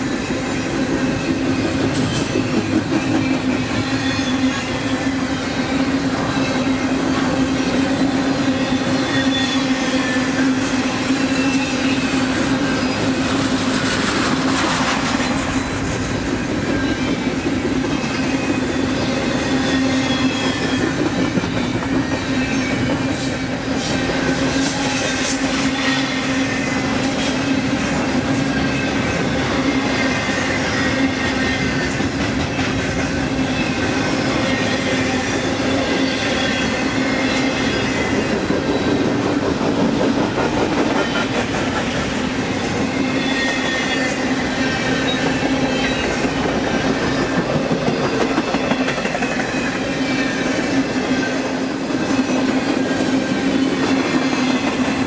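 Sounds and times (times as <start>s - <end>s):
train cars rolling past: 0.0s - 55.0s
wheel squeal: 0.2s - 39.5s, 40.6s - 55.0s.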